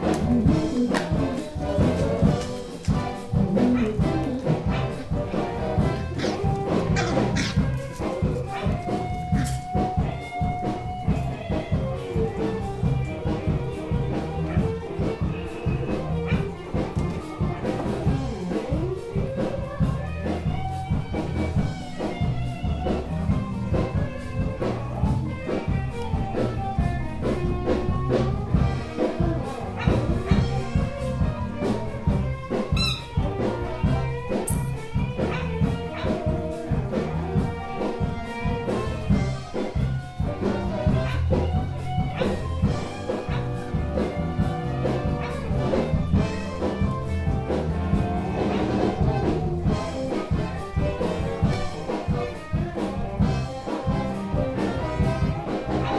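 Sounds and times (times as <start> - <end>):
bass notes: 0.0 - 55.9
blues-rock band playing: 0.0 - 55.9
steady drum beat: 0.0 - 55.9.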